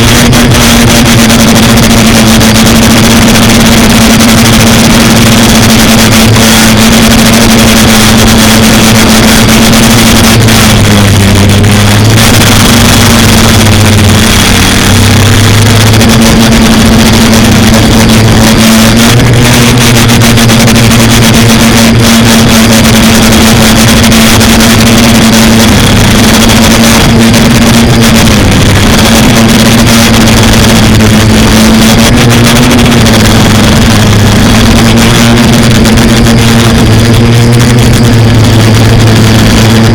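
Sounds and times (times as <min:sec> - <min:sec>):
quadcopter motors buzzing: 0:00.0 - 0:39.9.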